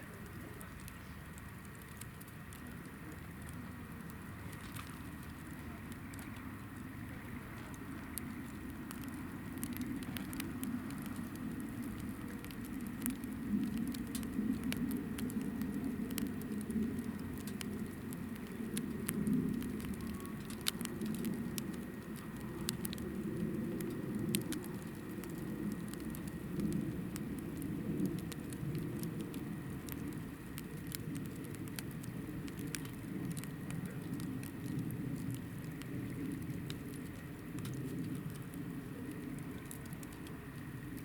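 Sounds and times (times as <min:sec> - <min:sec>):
campfire flames rumbling: 0:00.0 - 0:41.0
fire crackles and pops: 0:00.0 - 0:41.0.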